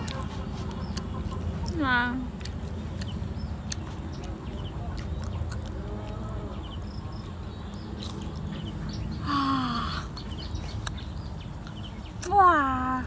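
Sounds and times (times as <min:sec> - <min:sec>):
mouth clicks: 0:00.0 - 0:08.5, 0:09.9 - 0:12.6
person chewing food: 0:00.0 - 0:09.1, 0:10.1 - 0:12.3.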